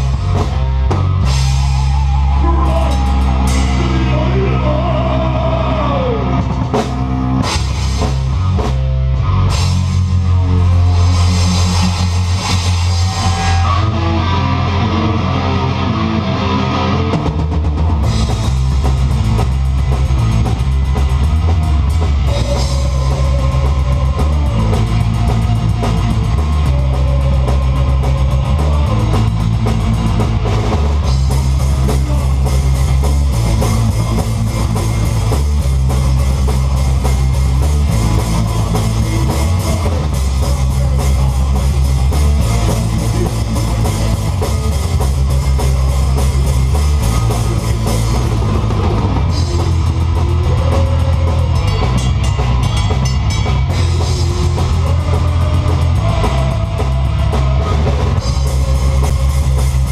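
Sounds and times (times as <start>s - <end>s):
distorted guitar riff: 0.0s - 59.9s
drum kit: 0.0s - 59.9s.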